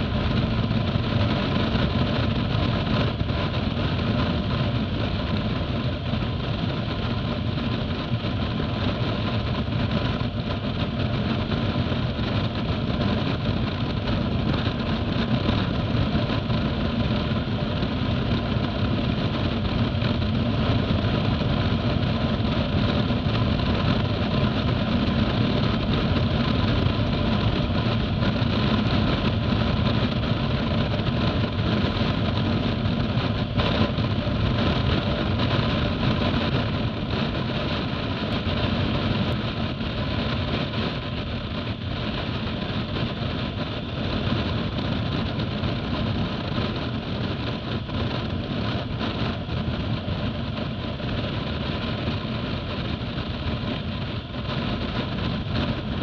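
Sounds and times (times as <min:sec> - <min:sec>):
road noise: 0:00.0 - 0:56.0
wind rush: 0:00.0 - 0:56.0.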